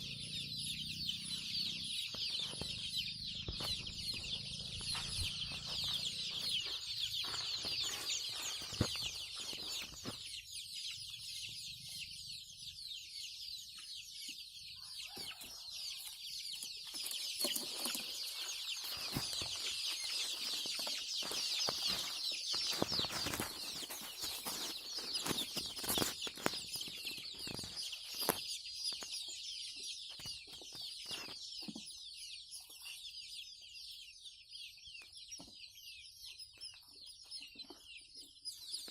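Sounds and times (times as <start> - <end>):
flock of chickens calling: 0.0 - 38.9.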